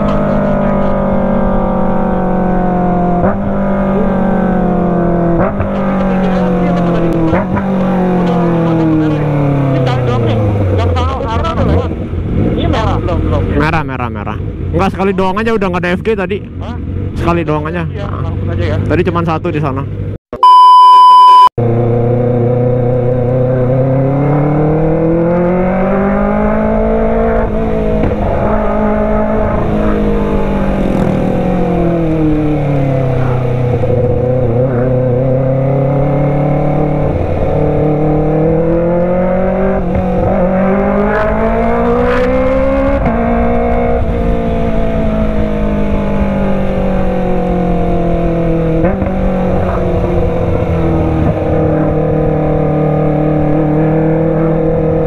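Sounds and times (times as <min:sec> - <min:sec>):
motorcycle engine revving: 0:00.0 - 0:20.2, 0:21.3 - 0:55.0.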